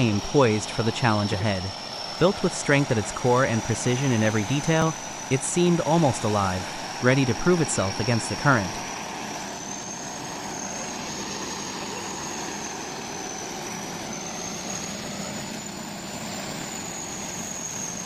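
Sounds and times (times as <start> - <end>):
heavy machinery engine: 0.0 - 18.0
thin high whine: 0.0 - 18.0.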